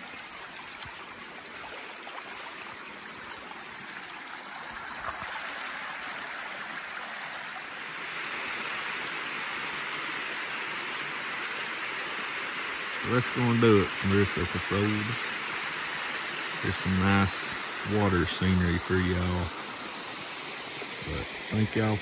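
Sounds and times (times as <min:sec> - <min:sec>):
creek running over rocks: 0:00.0 - 0:22.0.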